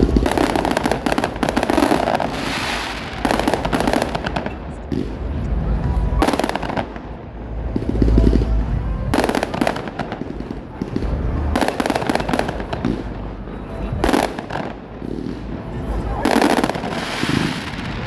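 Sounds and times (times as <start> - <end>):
firework crackling: 0.0 - 18.0.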